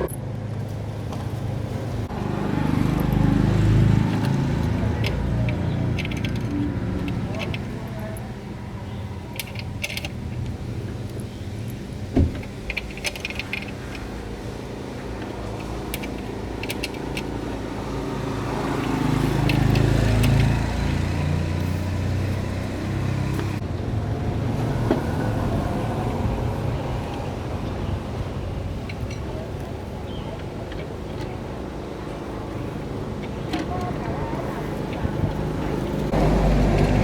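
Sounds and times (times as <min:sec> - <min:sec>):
vehicle engine rumble: 0:00.0 - 0:37.0.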